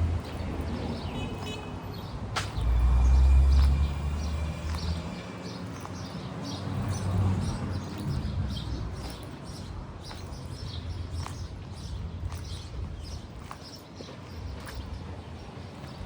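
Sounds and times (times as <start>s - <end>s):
low street rumble: 0.0s - 16.0s
small birds chirping: 0.2s - 16.0s.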